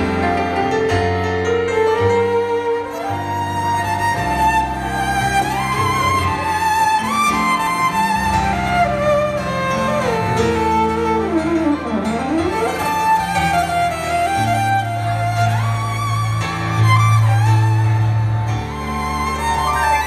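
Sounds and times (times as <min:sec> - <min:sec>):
solo violin melody: 0:00.0 - 0:20.0.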